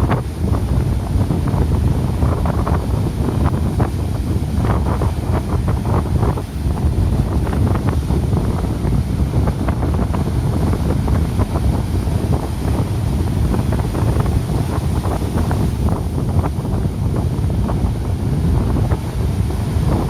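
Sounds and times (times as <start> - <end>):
heavy sea surf: 0.0 - 20.0
strong wind buffeting microphone: 0.0 - 20.0.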